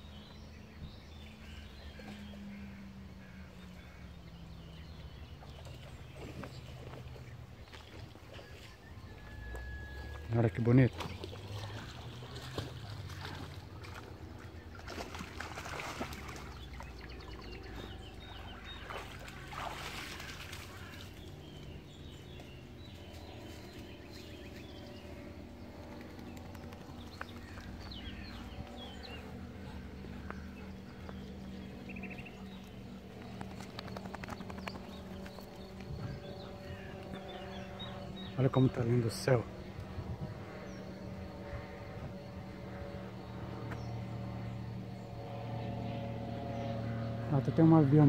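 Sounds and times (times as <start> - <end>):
low outdoor rumble: 0.0 - 48.0
small birds chirping: 0.0 - 48.0.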